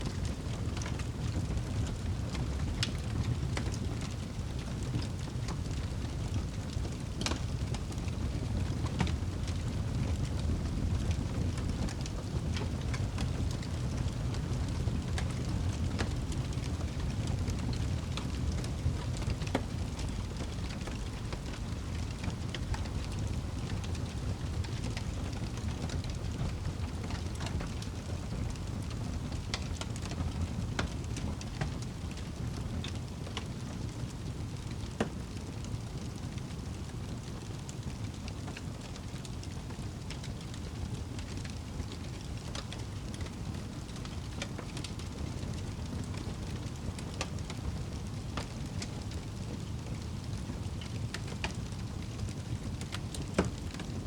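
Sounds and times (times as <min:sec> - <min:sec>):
fire crackling and popping: 0:00.0 - 0:54.0
wood fire rumbling: 0:00.0 - 0:54.0.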